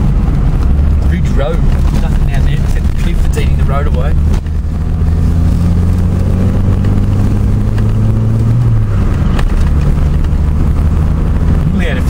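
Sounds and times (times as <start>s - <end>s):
car engine from inside cabin: 0.0s - 12.0s
road rumble: 0.0s - 12.0s.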